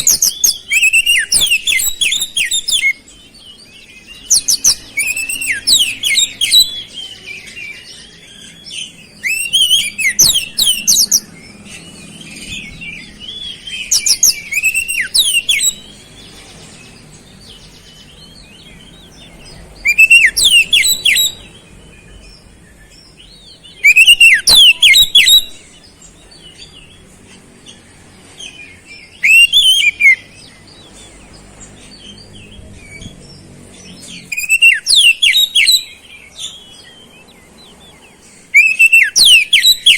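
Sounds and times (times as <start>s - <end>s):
bird whistling song: 0.0s - 27.0s, 27.7s - 39.9s
bird twittering: 0.0s - 39.9s.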